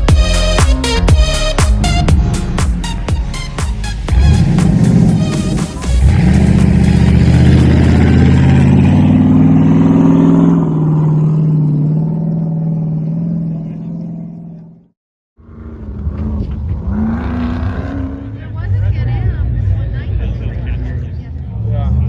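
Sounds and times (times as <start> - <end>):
different engine sound: 0.4 - 22.0
vehicle engine running loud: 2.0 - 22.0.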